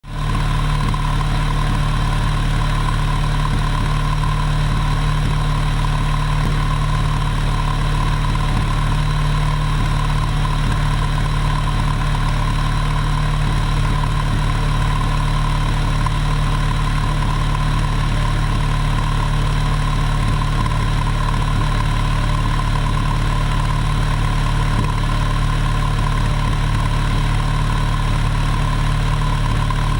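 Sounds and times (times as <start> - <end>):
car engine exhaust idling: 0.0 - 29.9.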